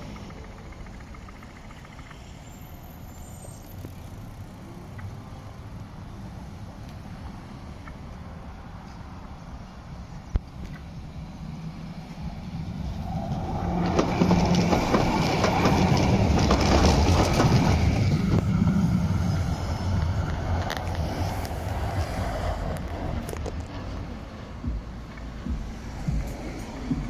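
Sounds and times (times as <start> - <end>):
tram passing on rails: 0.0 - 27.0.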